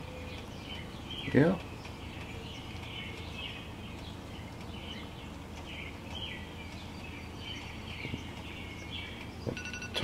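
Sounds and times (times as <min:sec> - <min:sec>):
low steady hum: 0:00.0 - 0:10.0
small birds chirping faintly: 0:00.0 - 0:10.0.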